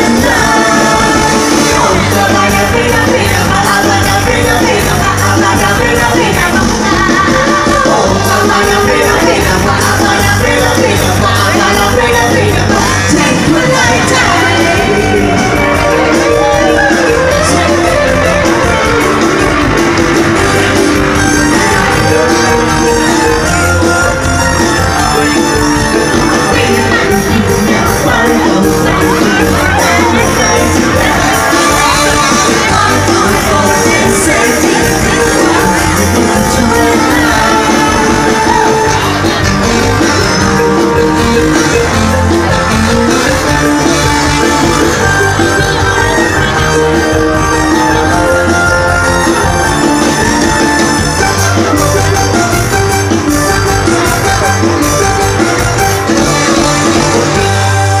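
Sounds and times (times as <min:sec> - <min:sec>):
person singing: 0:00.0 - 0:19.6, 0:20.2 - 0:51.8
upbeat pop music over loudspeakers: 0:00.0 - 0:58.0.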